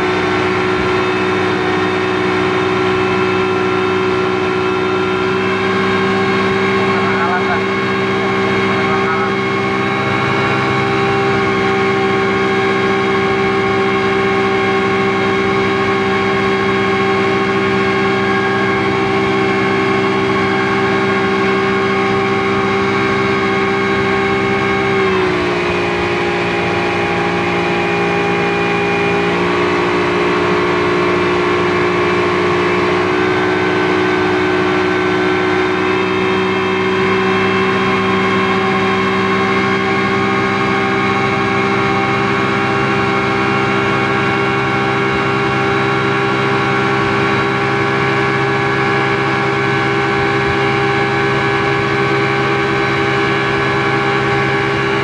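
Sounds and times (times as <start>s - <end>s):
speedboat engine running: 0.0s - 55.0s.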